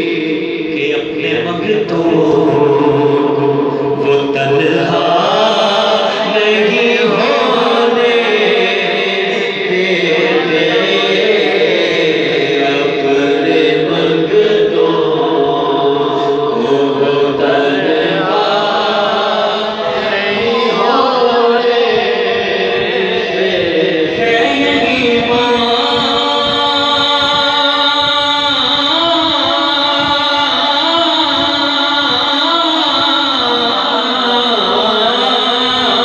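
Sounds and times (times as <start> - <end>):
men chanting into a microphone: 0.0 - 36.0.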